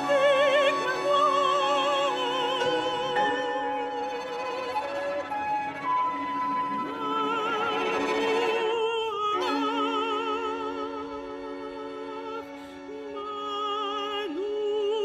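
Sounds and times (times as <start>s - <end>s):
soprano singing with vibrato: 0.0s - 5.0s, 6.2s - 15.0s.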